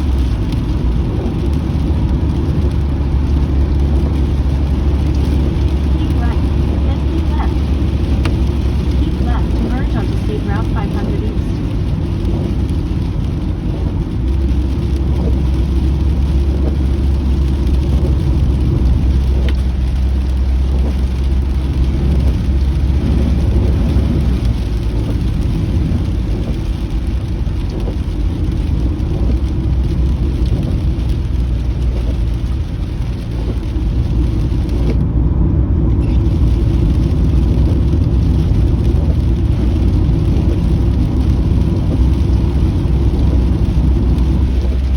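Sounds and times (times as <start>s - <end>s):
car road and engine rumble: 0.0s - 44.9s
rain hissing on car: 0.0s - 44.9s.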